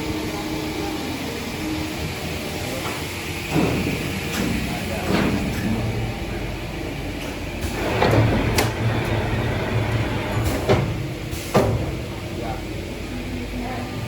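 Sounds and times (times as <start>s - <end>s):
machine motor hum: 0.0s - 12.7s.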